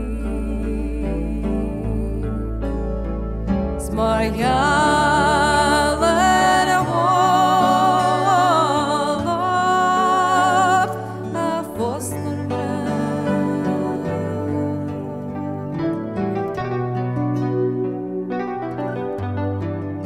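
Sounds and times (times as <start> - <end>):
slow melody with vibrato: 0.0 - 20.0.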